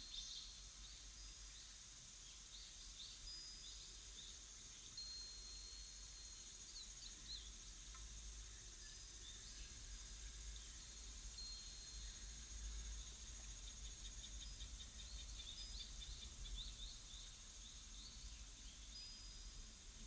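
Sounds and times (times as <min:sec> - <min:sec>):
faint birdsong chirps: 0:00.0 - 0:20.0
steady high hiss: 0:00.0 - 0:20.0.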